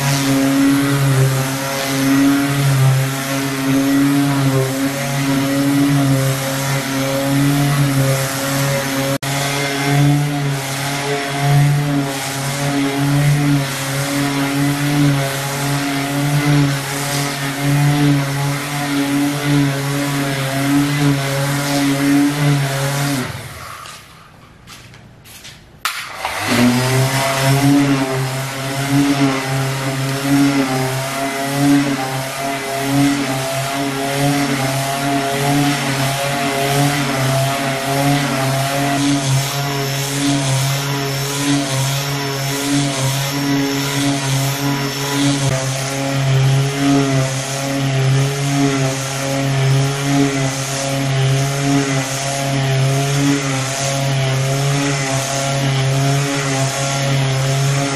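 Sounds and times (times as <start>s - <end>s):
electric sander on wood: 0.0s - 24.1s, 26.0s - 57.9s.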